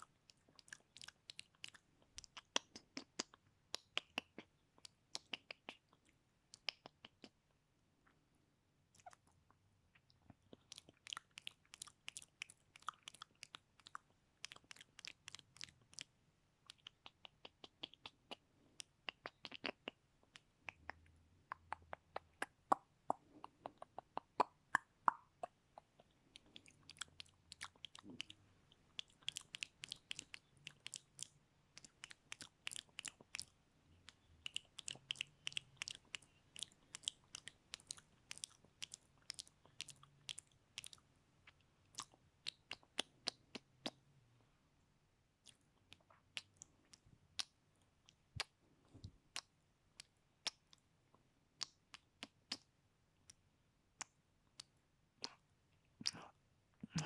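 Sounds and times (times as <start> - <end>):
wet mouth clicks and smacks: 0.0 - 7.4, 8.9 - 44.0, 45.4 - 57.0.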